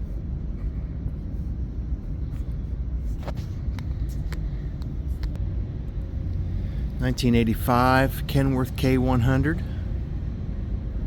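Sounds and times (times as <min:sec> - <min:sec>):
low rumble of hall noise: 0:00.0 - 0:11.0.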